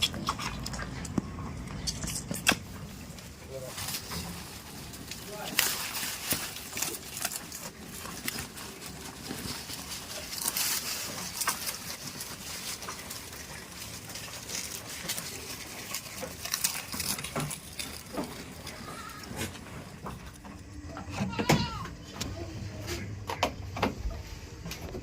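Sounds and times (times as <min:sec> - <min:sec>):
goats rustling and shuffling: 0:00.0 - 0:25.0.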